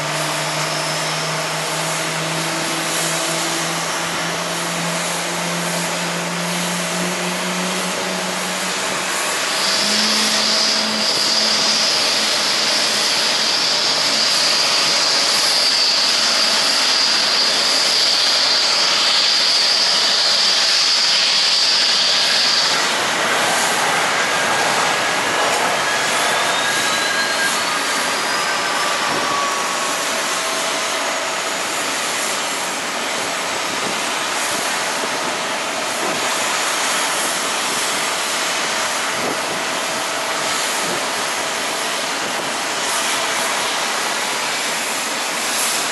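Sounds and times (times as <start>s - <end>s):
jet engines roaring with whine: 0.0s - 45.9s.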